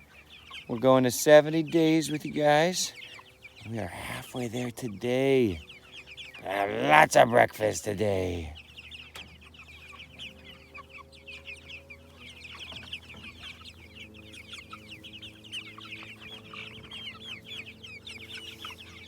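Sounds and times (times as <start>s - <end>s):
chickens peeping and cheeping: 0.0s - 19.0s.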